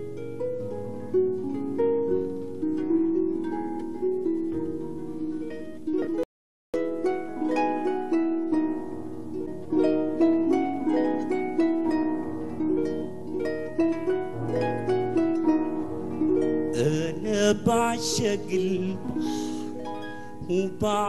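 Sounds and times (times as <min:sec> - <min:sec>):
harp music: 0:00.0 - 0:06.2, 0:06.8 - 0:21.0.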